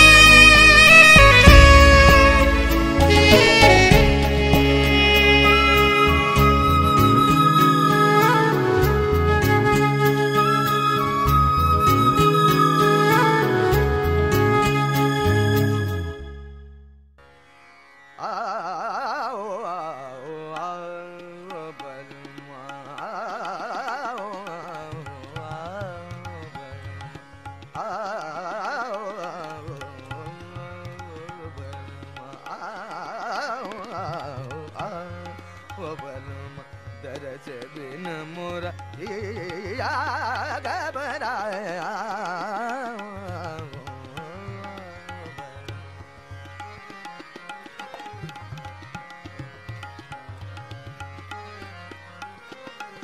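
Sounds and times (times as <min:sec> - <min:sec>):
indian classical style music: 0:00.0 - 0:53.0.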